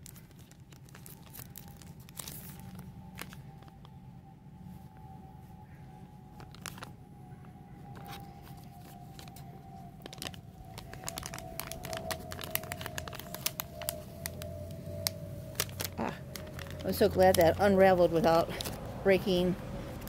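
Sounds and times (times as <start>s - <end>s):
paper envelope crinkling: 0.0s - 4.0s, 6.3s - 18.9s.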